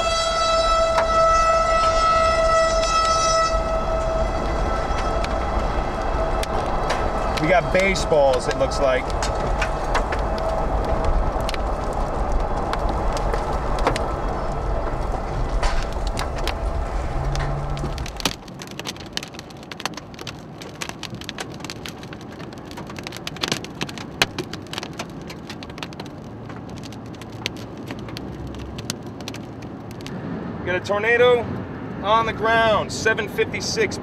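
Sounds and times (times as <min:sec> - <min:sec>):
hailstones striking a car: 0:00.0 - 0:30.1
car driving rumble: 0:00.0 - 0:34.0.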